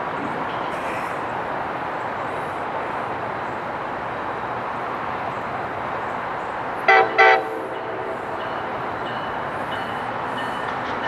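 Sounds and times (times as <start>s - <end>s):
distant traffic rushing: 0.0s - 11.0s.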